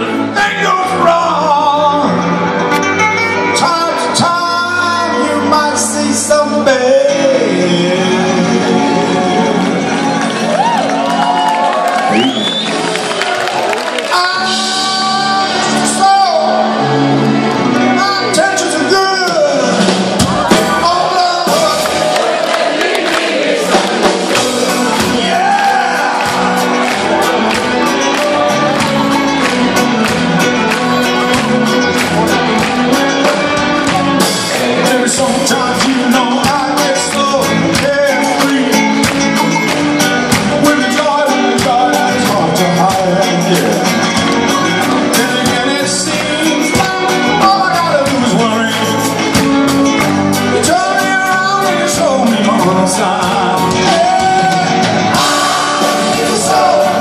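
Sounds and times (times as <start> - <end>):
man singing lead vocal: 0.0 - 10.4, 14.0 - 17.2, 17.8 - 29.5, 30.7 - 57.0
live rock band playing: 0.0 - 57.0.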